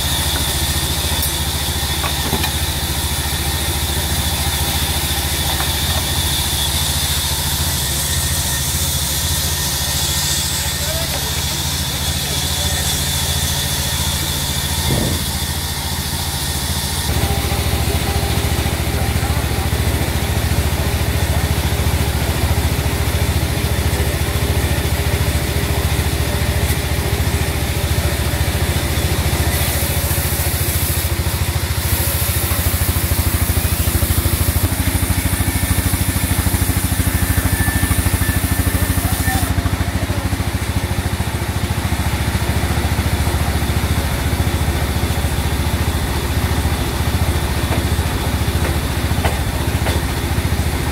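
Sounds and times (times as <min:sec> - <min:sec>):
sawmill drone: 0:00.0 - 0:50.9.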